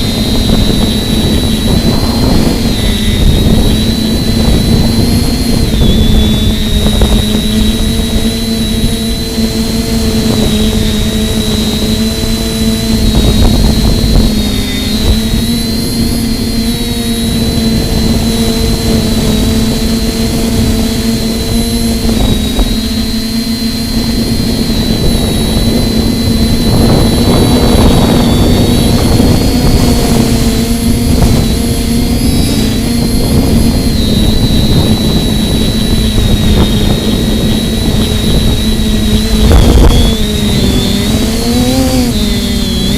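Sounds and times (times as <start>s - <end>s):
quadcopter motors humming: 0.0s - 42.9s
thin high whine: 0.0s - 42.9s
wind rumble on microphone: 0.0s - 42.9s.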